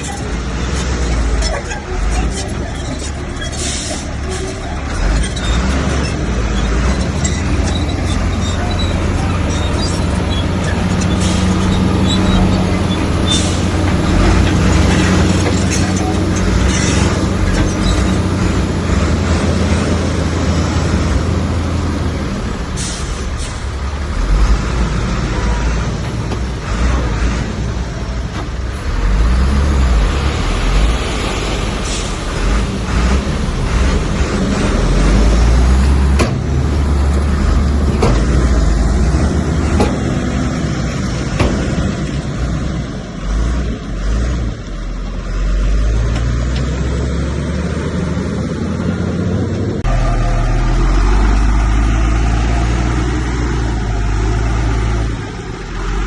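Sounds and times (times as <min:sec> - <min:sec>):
diesel engine rumble: 0:00.0 - 0:56.0.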